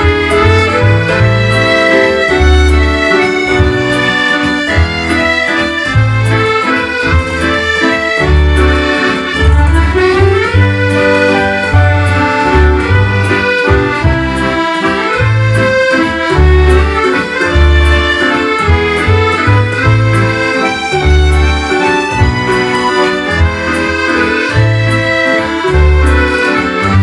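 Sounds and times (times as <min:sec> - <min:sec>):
accordion melody: 0:00.0 - 0:27.0
bass notes pulsing: 0:00.0 - 0:27.0
keyboard: 0:00.0 - 0:27.0.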